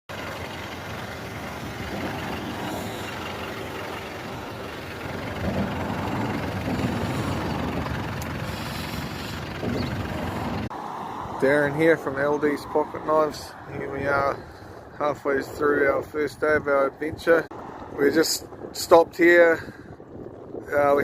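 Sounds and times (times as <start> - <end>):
road noise: 0.0 - 21.0
diesel engine driving: 0.1 - 21.0.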